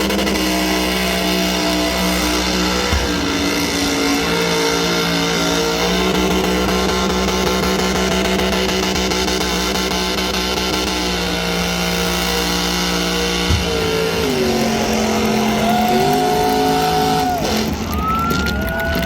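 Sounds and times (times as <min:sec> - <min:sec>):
car engine revving high: 0:00.0 - 0:18.9.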